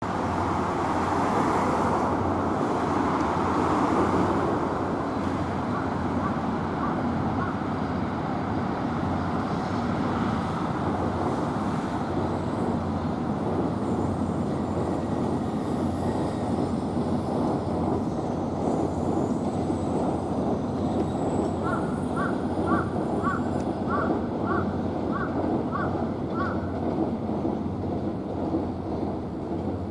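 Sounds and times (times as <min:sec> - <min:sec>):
train rumbling into platform: 0:00.0 - 0:29.9.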